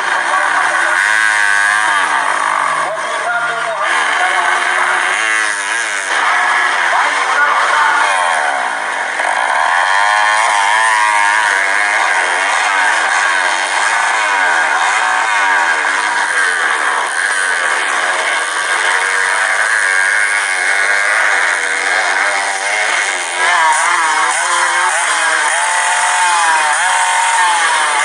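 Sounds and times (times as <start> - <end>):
motocross bikes revving: 0.0 - 28.0.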